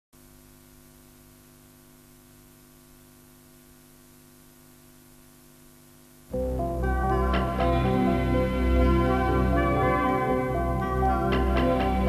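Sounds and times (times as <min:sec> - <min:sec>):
faint electrical hum with hiss: 0:00.2 - 0:12.0.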